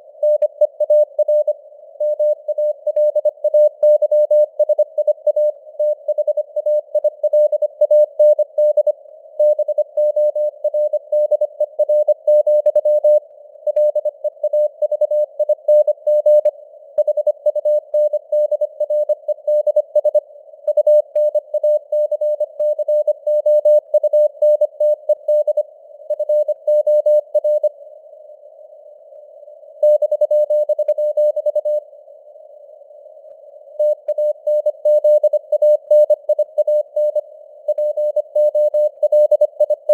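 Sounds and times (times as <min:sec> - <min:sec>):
morse code beeps: 0:00.2 - 0:27.7, 0:29.8 - 0:31.8, 0:33.8 - 0:39.9.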